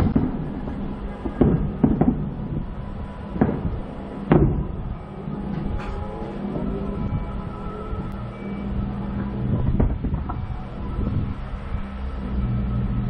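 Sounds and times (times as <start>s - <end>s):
fireworks booming: 0.0s - 11.7s
steady low hum: 0.0s - 13.0s.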